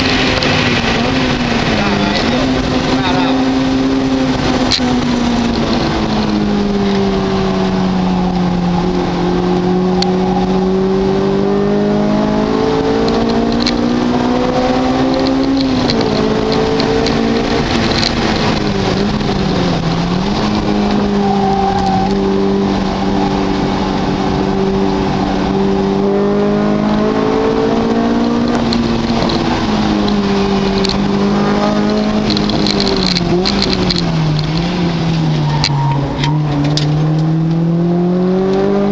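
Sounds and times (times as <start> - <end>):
race car engine at speed: 0.0 - 38.9.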